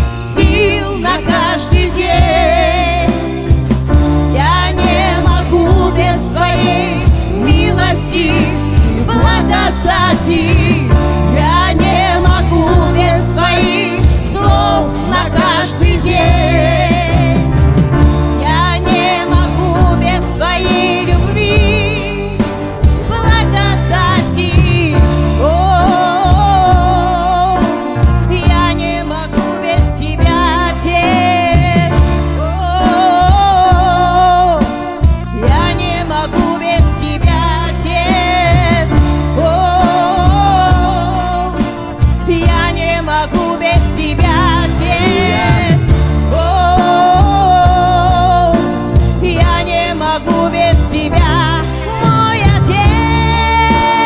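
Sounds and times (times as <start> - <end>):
bass guitar: 0.0 - 54.0
electric guitar: 0.0 - 54.0
person singing with vibrato: 0.0 - 54.0.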